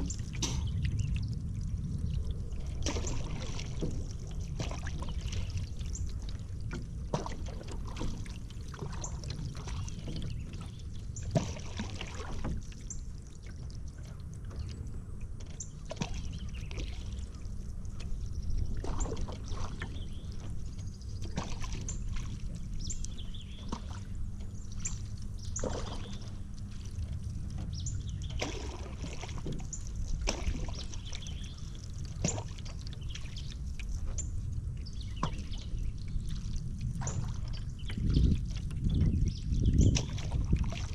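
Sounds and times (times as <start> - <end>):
paddle splashing in water: 0.0 - 40.9
steady low rumble: 0.0 - 40.9
water dripping off paddle: 0.0 - 40.9.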